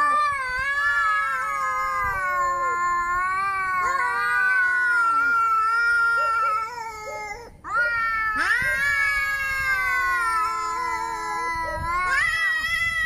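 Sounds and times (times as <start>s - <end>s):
angry cat yowling: 0.0s - 13.0s.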